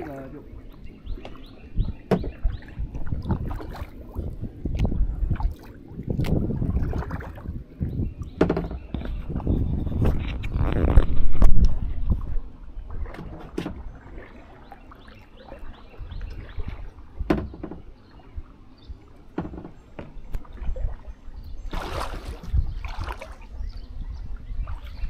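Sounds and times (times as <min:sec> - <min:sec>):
paddle splashing in water: 0:00.0 - 0:23.9
wind rumble on microphone: 0:00.0 - 0:25.0.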